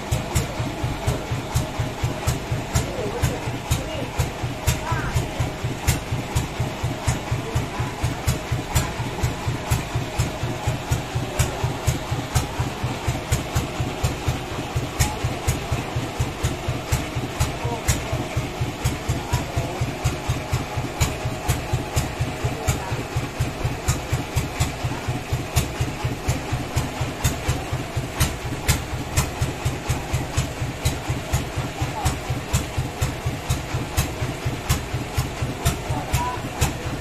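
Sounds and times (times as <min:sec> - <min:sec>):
saw mill engine idling: 0:00.0 - 0:37.0.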